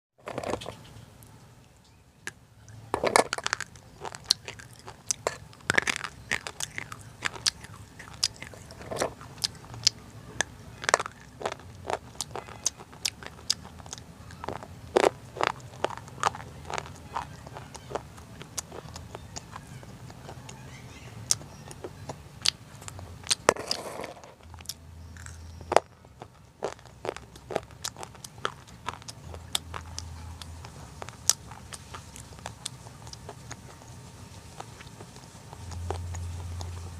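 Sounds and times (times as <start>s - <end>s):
crunchy food being chewed: 2.7s - 36.9s.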